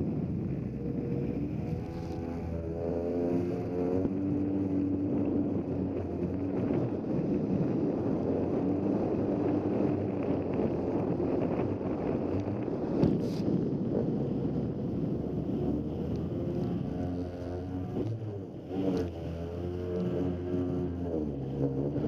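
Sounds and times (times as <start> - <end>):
personal watercraft engine running: 0.0 - 22.0
wind on microphone: 0.0 - 22.0.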